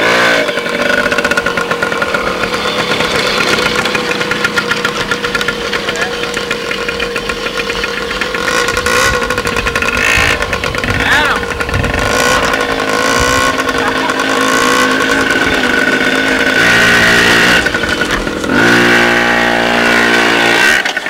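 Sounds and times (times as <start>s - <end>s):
quad bike engine puttering: 0.0s - 21.0s.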